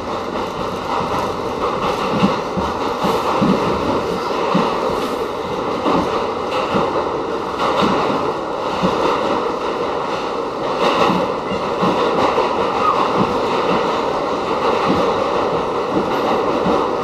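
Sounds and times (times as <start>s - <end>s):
subway car rushing rumble: 0.0s - 17.0s.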